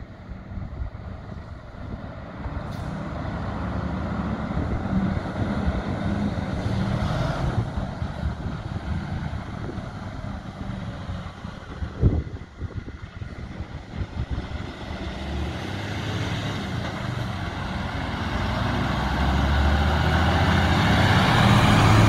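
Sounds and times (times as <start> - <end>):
fire engine diesel pulling away: 0.0 - 22.0.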